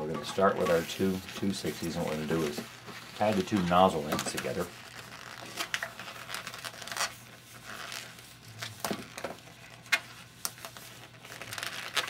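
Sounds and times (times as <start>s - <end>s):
rubbery balloon rubs and scrapes: 0.3s - 12.0s.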